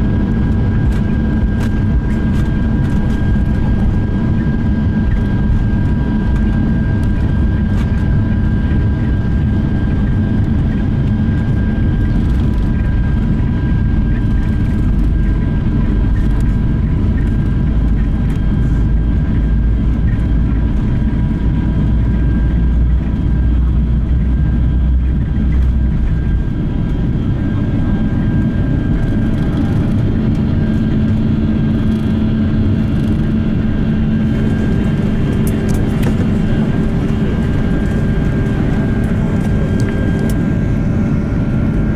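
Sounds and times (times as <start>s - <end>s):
jet engine cabin rumble: 0.0s - 41.9s.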